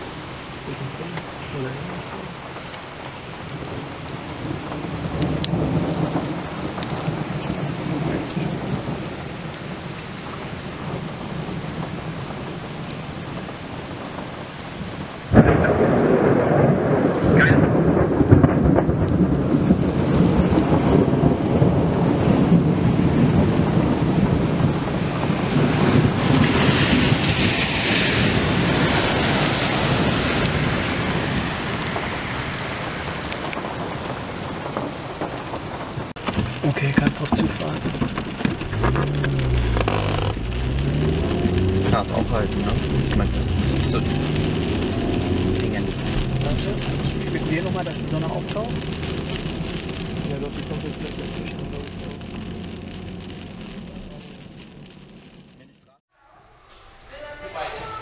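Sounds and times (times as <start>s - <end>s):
steady rain: 0.0s - 56.1s
thunder rumbling: 0.0s - 58.0s
close thunderclap: 3.5s - 55.6s.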